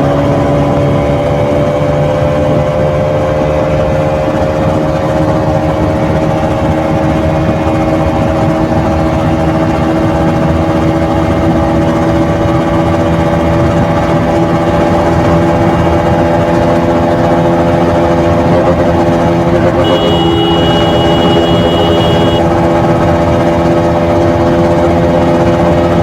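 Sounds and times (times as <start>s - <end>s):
motorcycle engine running steadily: 0.0s - 26.0s.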